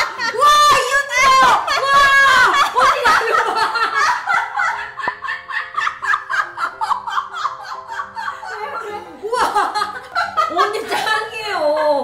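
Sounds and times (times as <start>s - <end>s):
women laughing hard: 0.0s - 12.0s.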